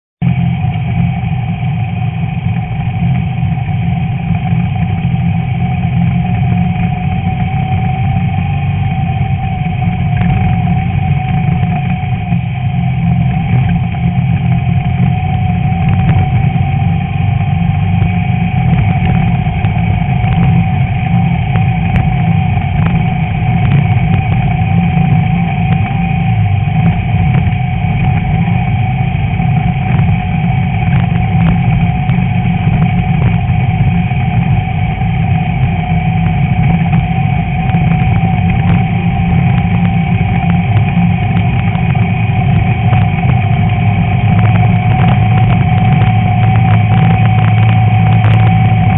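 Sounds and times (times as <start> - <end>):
car engine running: 0.2 - 48.9
constant whine: 0.2 - 48.9.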